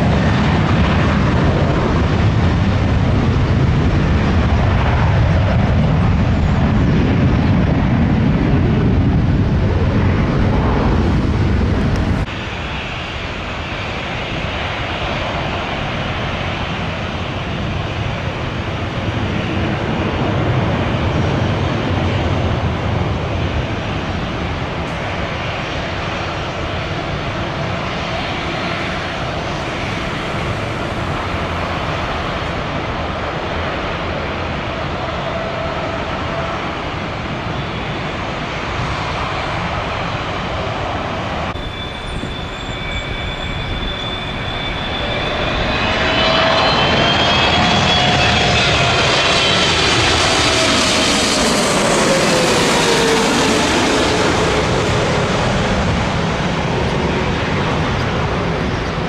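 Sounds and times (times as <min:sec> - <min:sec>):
jet engine steady rush: 0:00.0 - 0:59.0
landing jet passing overhead: 0:00.0 - 0:59.0.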